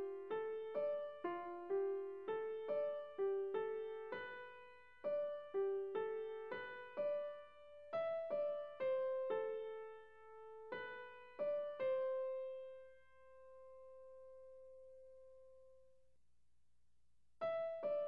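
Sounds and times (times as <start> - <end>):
gentle electric piano melody: 0.0 - 15.7, 17.5 - 18.0.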